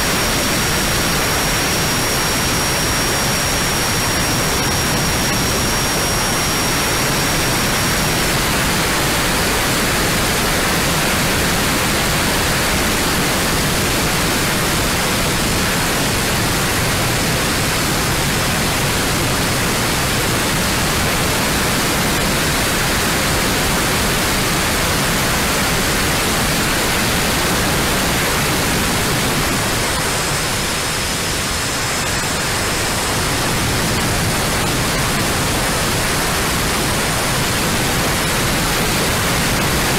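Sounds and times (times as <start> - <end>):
electric ducted fans rushing: 0.0 - 39.9.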